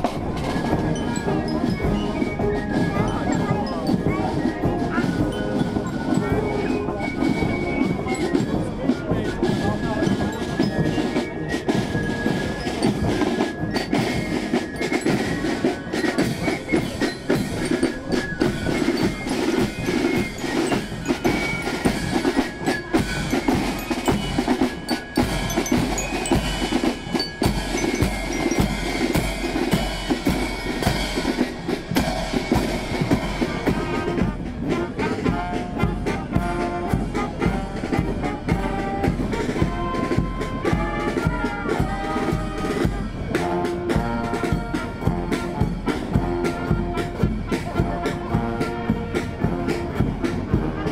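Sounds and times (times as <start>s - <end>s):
bell lyres and flutes: 0.0s - 50.9s
snare drumming: 0.0s - 50.9s
trombones and saxophones: 0.0s - 50.9s.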